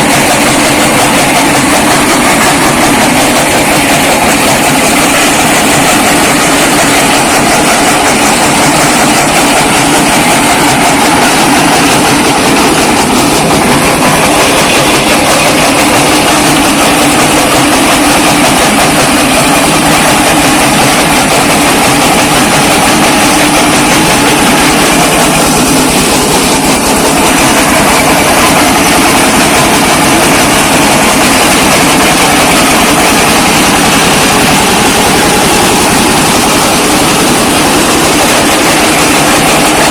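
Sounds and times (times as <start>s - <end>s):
brick-breaker machine rattling: 0.0s - 39.9s.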